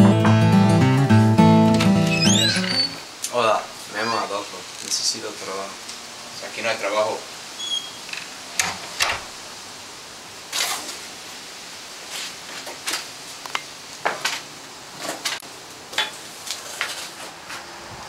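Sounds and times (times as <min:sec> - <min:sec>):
steady hiss: 0:02.2 - 0:18.0.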